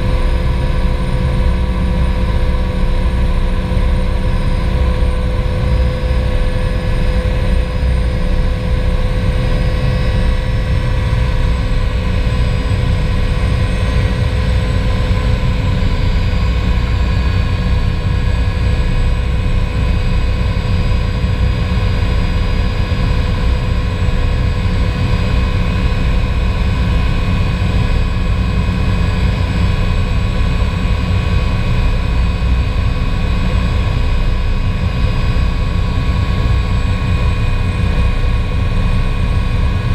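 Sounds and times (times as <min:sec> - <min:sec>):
helicopter engines low rumble: 0:00.0 - 0:39.9
turbine whine: 0:00.0 - 0:39.9.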